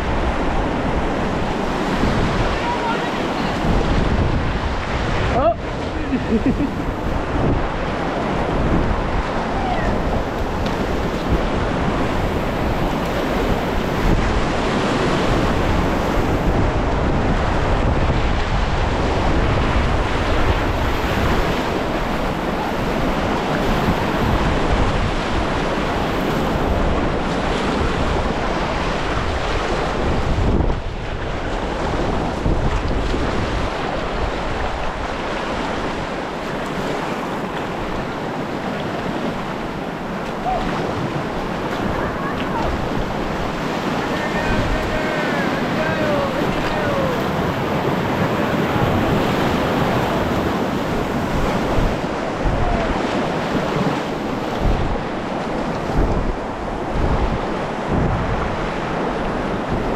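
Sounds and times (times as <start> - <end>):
river rapids rushing: 0.0 - 59.9
wind buffeting microphone: 0.0 - 59.9.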